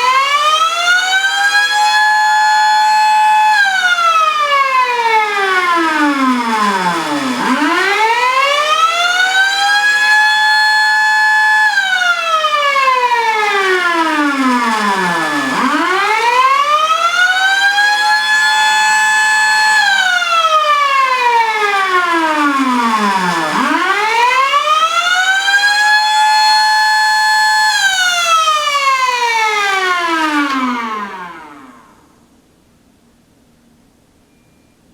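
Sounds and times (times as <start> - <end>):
tornado siren wailing: 0.0 - 32.2.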